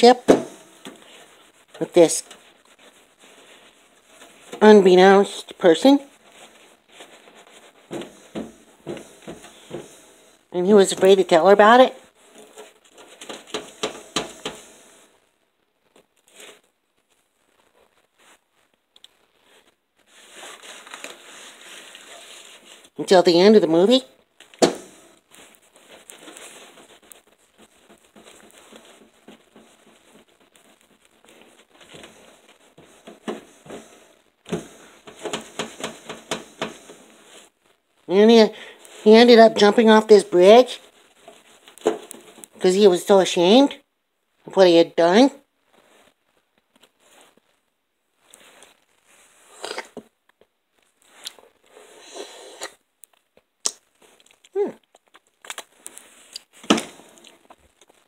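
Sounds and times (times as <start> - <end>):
crinkling: 0.0 - 42.7, 45.4 - 58.0.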